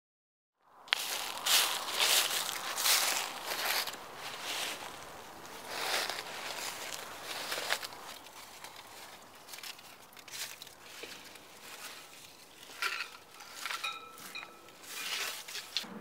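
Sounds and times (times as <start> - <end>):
scuffing and rustling of movement: 0.9 - 15.9.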